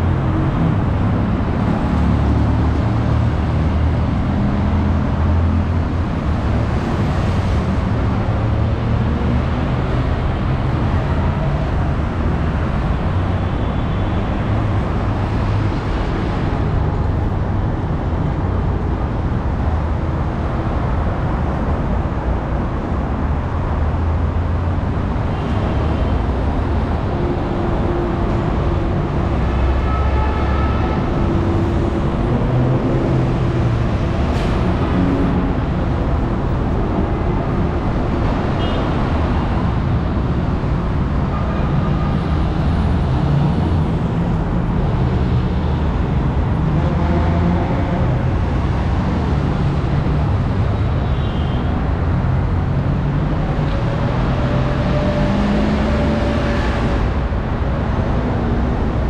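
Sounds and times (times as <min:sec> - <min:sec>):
road traffic engine hum: 0:00.0 - 0:59.0.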